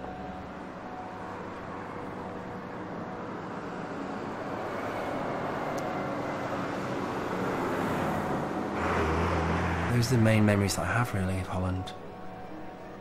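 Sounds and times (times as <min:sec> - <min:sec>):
truck passing: 0:00.0 - 0:11.6.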